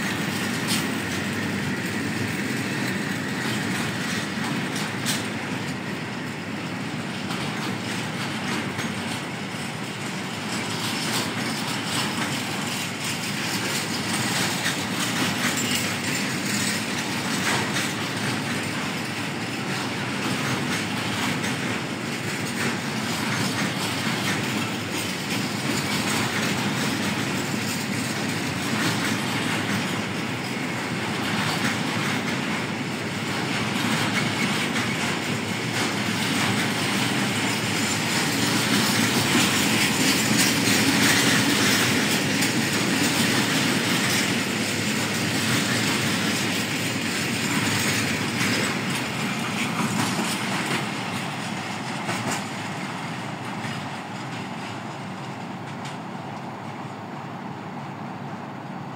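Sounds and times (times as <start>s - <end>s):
freight train wheels clattering: 0.0s - 58.9s.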